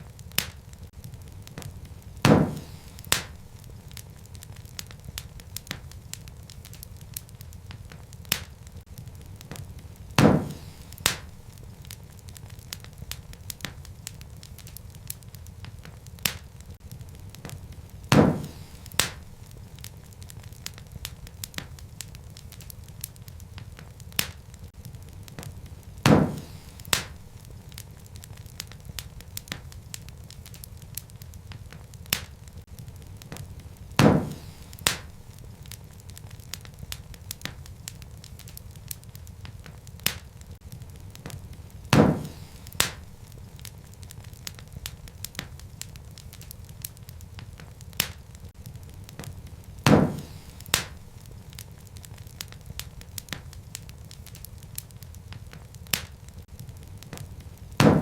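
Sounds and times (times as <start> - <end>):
fire rumbling and crackling: 0.0 - 58.0
loud pop of burning wood: 0.0 - 58.0.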